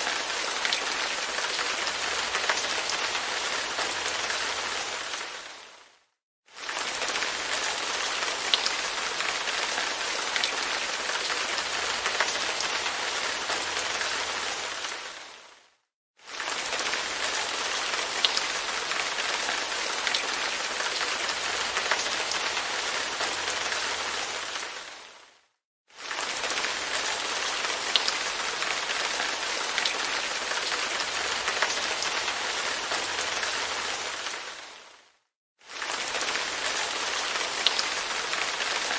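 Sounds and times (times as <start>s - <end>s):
rain pattering on a window: 0.0s - 5.8s, 6.6s - 15.6s, 16.3s - 25.1s, 26.0s - 35.0s, 35.7s - 38.9s.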